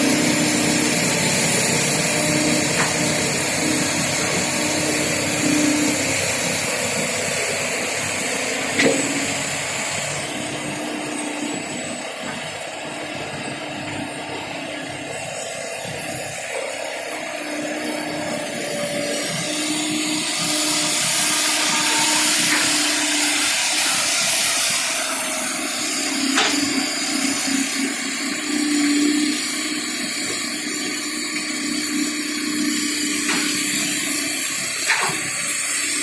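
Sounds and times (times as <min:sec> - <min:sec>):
excavator engines and hydraulics: 0:00.0 - 0:36.0.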